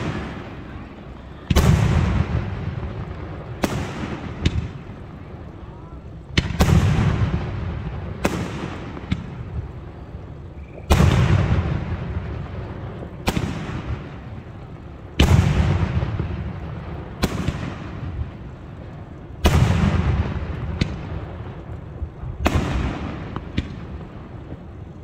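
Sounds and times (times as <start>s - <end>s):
sharp firework cracks: 0.0s - 5.5s, 6.2s - 25.0s
firework bursts with rumble: 0.0s - 25.0s.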